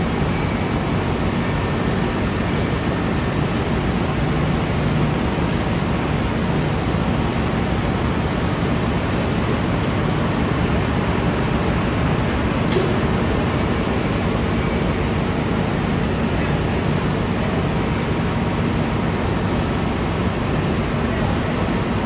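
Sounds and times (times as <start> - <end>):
engine room machinery noise: 0.0 - 22.0.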